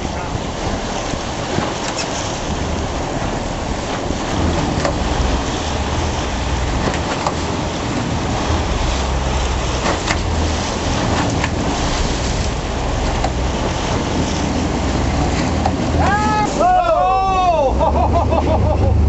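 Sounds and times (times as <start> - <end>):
wind on microphone: 0.0 - 16.8
boat engine drone: 0.0 - 19.0
water rushing along hull: 0.0 - 19.0.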